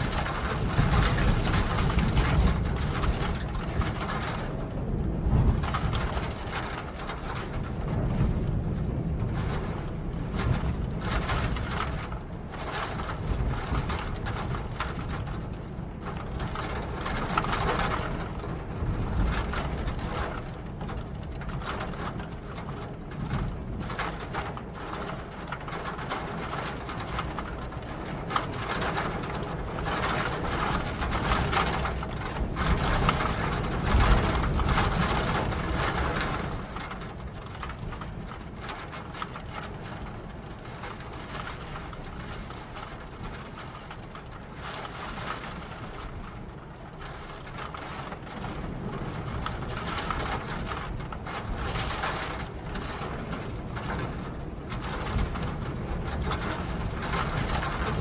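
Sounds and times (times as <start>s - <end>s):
rain ticking and tapping: 0.0s - 58.0s
steady low rumble: 0.0s - 58.0s.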